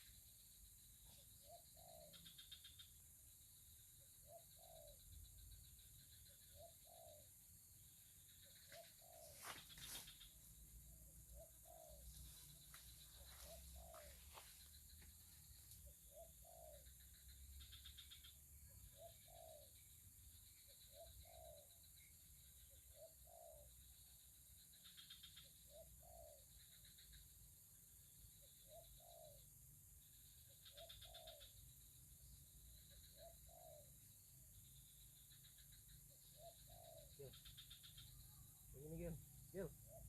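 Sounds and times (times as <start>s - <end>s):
bird cooing call: 0.9s - 3.0s, 4.0s - 10.3s, 11.0s - 24.1s, 24.9s - 27.2s, 28.4s - 31.7s, 32.7s - 40.0s.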